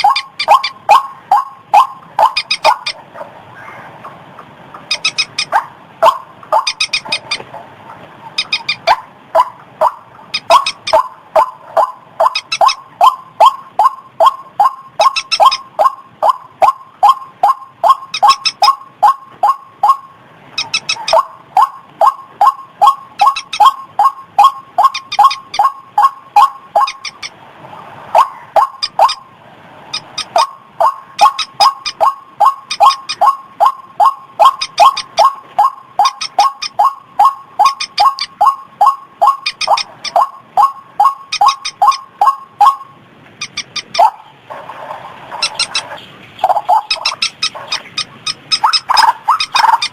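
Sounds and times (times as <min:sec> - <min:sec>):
waterhen calling: 0:00.0 - 0:49.9.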